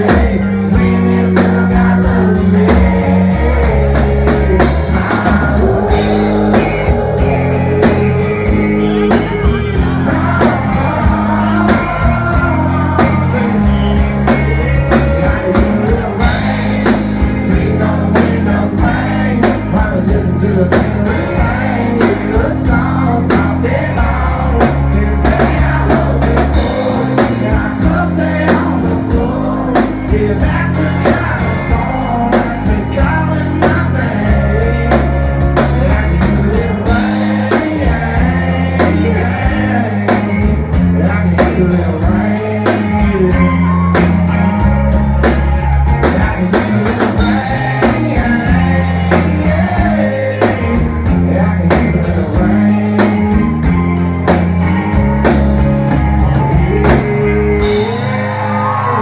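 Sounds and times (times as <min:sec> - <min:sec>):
man singing: 0:00.0 - 0:54.7, 0:56.1 - 0:59.0
country-rock band playing: 0:00.0 - 0:59.0.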